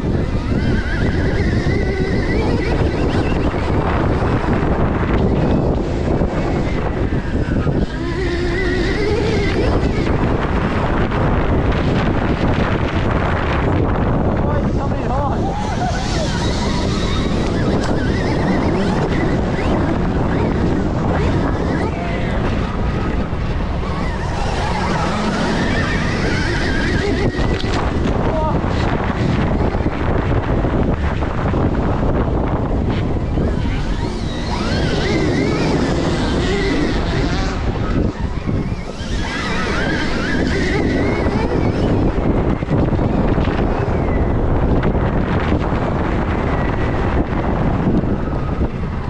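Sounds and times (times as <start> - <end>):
electric motorbike motor whine: 0.0 - 49.0
wind buffeting microphone: 0.0 - 49.0.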